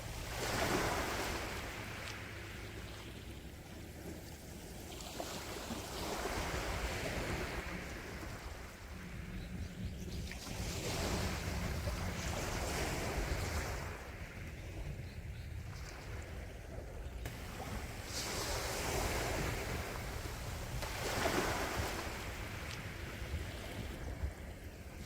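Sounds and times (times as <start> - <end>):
sea waves breaking: 0.0 - 9.3, 10.2 - 14.9, 15.6 - 25.0.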